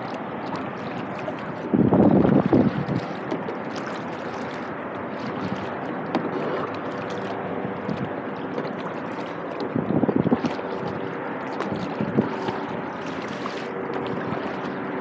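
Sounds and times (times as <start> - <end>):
paddle drips and splashes: 0.0 - 15.0
water splashing around kayak: 0.0 - 15.0.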